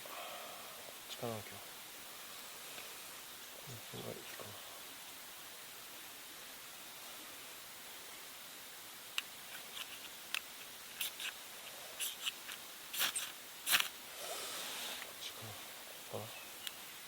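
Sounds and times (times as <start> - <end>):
soft hiss: 0.0 - 17.0.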